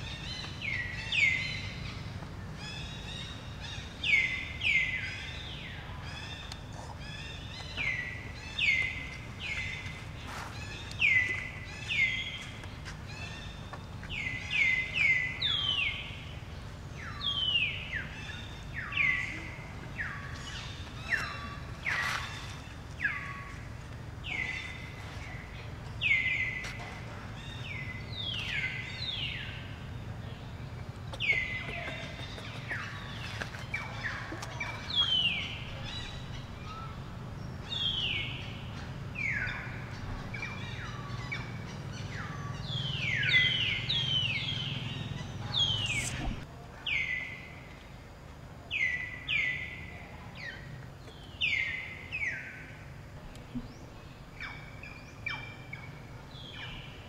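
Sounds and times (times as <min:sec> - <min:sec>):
faint low background noise: 0:00.0 - 0:57.0.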